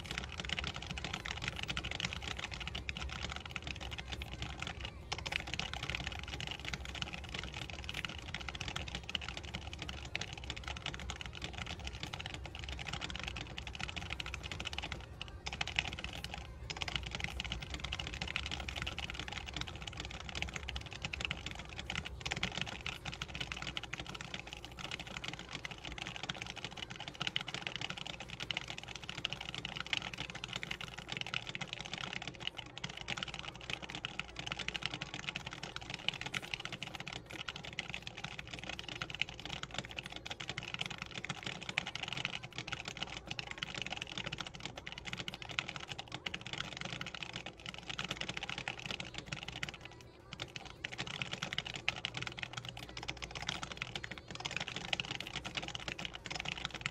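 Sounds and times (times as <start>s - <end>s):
fast mechanical keyboard typing: 0.0s - 56.9s.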